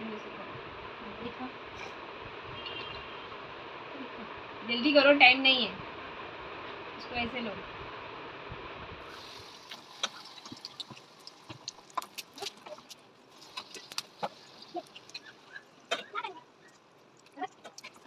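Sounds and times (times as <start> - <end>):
food deep-frying in oil: 0.7 - 18.0.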